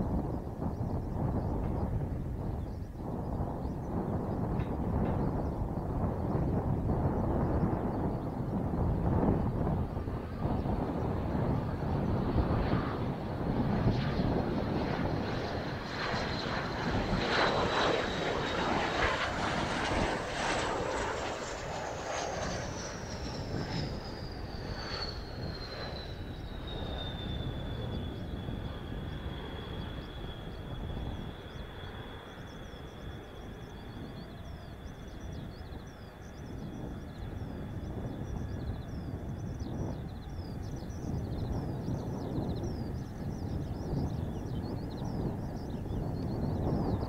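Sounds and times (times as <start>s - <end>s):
jet engines roaring and whining: 0.0s - 47.0s.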